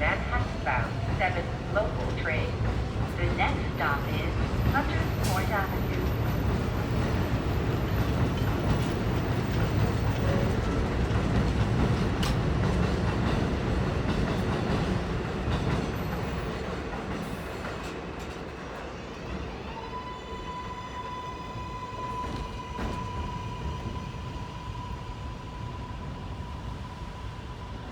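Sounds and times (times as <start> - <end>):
subway train wheels rumbling on rails: 0.0 - 27.9.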